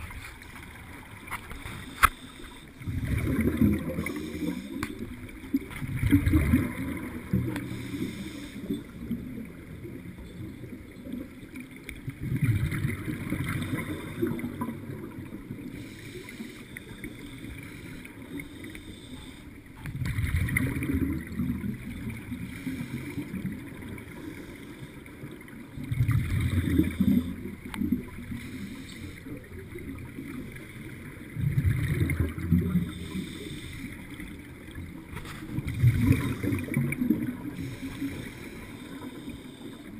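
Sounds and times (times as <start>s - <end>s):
quiet steady noise: 0.0s - 39.9s
underwater regulator bubbles gurgling: 0.0s - 39.9s.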